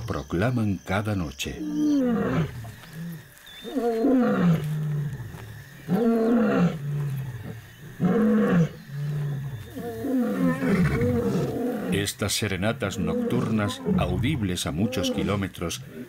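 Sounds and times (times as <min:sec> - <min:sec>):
lion roaring: 0:01.6 - 0:12.1, 0:12.7 - 0:16.0.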